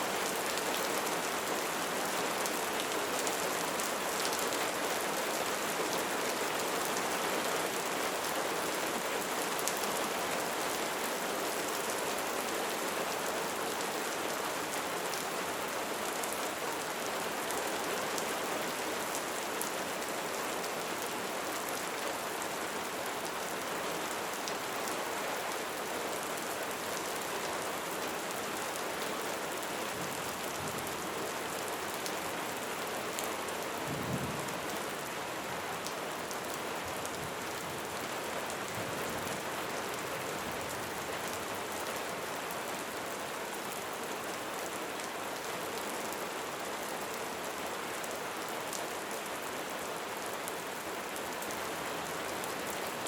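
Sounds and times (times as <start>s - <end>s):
light rain falling: 0.0s - 53.0s.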